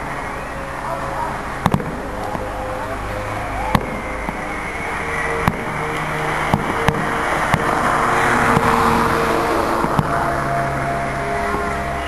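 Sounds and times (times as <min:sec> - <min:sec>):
background rush and hum: 0:00.0 - 0:12.0
fireworks cracks: 0:01.3 - 0:03.1, 0:03.7 - 0:12.0.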